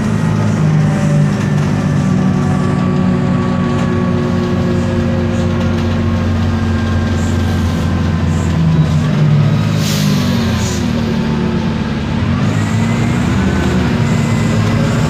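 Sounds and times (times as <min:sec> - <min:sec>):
bus diesel engine running: 0:00.0 - 0:15.0
drivetrain whine: 0:00.0 - 0:15.0.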